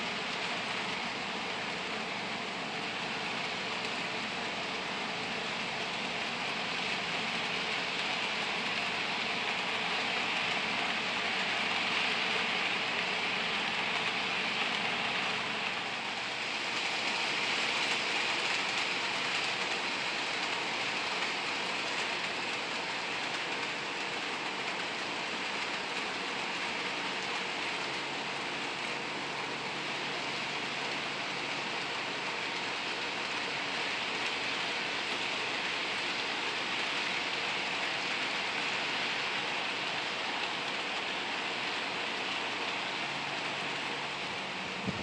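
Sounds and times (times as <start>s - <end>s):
model train motor whirring: 0.0s - 45.0s.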